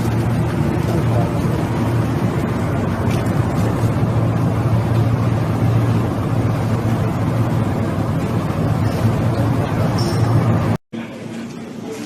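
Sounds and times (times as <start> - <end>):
rushing noise: 0.0 - 10.8
low machine drone: 0.0 - 12.0.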